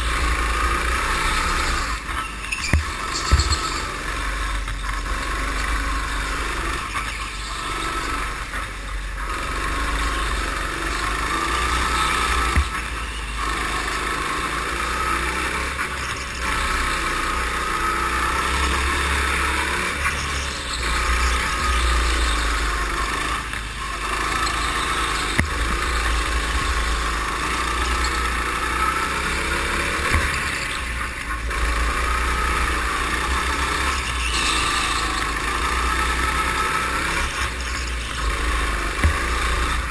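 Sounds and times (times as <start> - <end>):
go-kart engine rumbling: 0.0 - 39.9.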